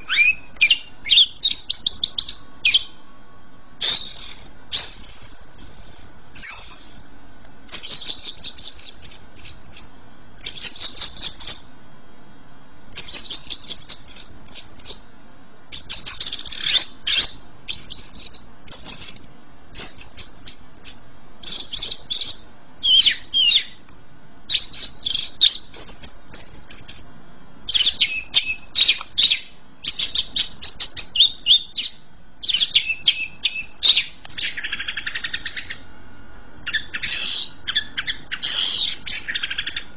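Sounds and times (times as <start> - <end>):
bird singing chattering whistles: 0.0 - 3.0, 3.8 - 11.7, 12.9 - 15.1, 15.7 - 23.8, 24.5 - 27.1, 27.7 - 35.8, 36.6 - 39.8.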